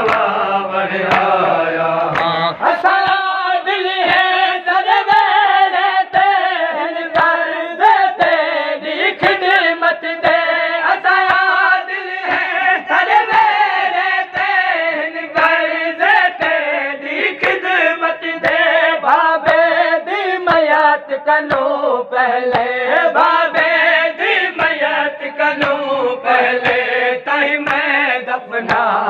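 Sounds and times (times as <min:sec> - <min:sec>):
men chanting a lament: 0:00.0 - 0:29.0
rhythmic chest-beating thuds: 0:00.0 - 0:29.0.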